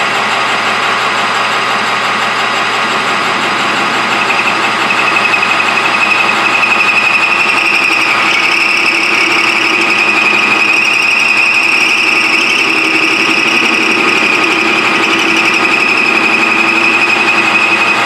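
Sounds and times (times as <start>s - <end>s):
metal lathe whining: 0.2s - 18.0s.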